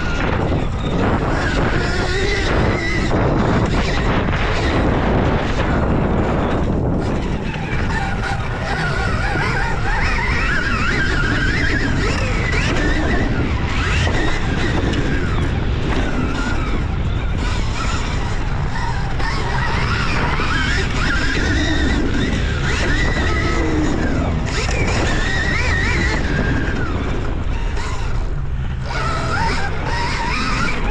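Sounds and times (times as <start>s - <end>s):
electric motor whine: 0.0s - 30.9s
wind rumble on microphone: 0.0s - 30.9s.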